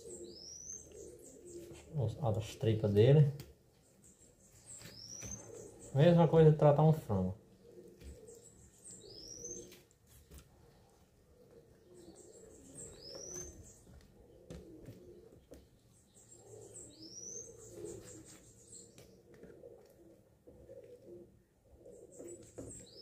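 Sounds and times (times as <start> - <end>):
pigeons cooing: 0.0 - 3.7, 4.3 - 23.0.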